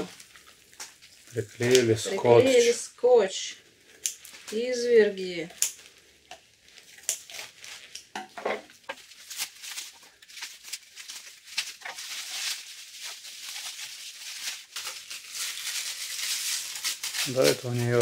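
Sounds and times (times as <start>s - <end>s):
bubble wrap crinkling: 0.0s - 2.8s, 3.6s - 18.0s.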